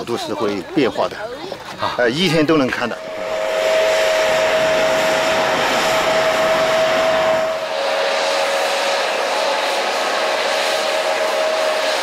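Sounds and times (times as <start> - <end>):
steam locomotive venting steam: 2.0 - 12.0.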